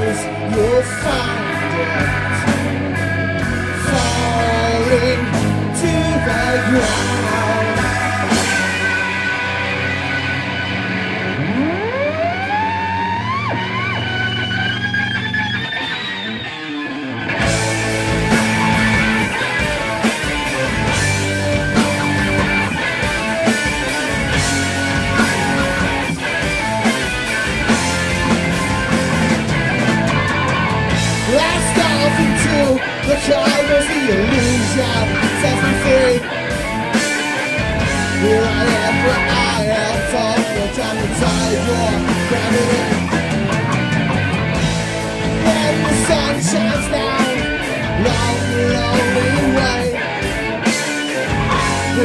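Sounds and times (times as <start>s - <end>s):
drums and cymbals: 0.0s - 11.2s, 17.4s - 52.0s
distorted electric guitar riffing: 0.0s - 52.0s.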